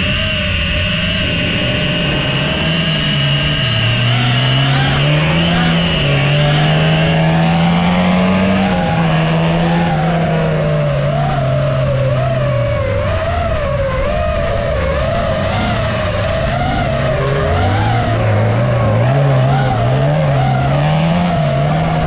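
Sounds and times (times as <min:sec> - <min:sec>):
drone motors whining: 0:00.0 - 0:22.0
race car engines revving: 0:00.0 - 0:22.0.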